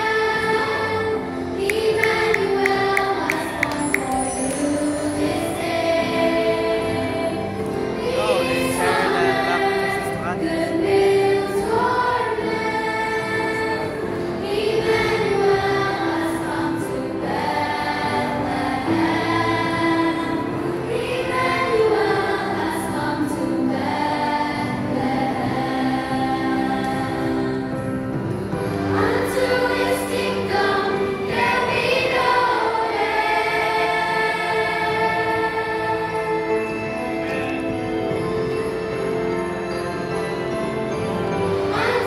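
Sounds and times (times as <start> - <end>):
choir singing: 0.0 - 38.6, 41.3 - 42.0
musical accompaniment: 0.0 - 42.0.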